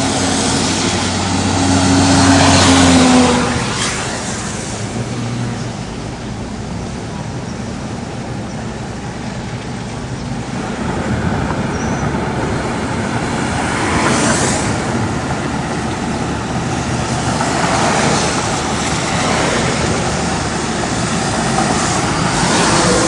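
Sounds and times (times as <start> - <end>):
car engine hum: 0.0 - 23.0
road and tyre noise: 0.0 - 23.0.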